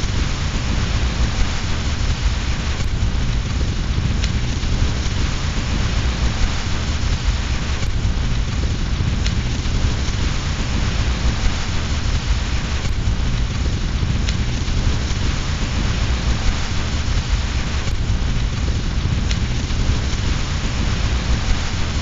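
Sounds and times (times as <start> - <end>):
deep low rumble: 0.0 - 22.0
heavy rain: 0.0 - 22.0
wood fire crackling: 0.0 - 22.0.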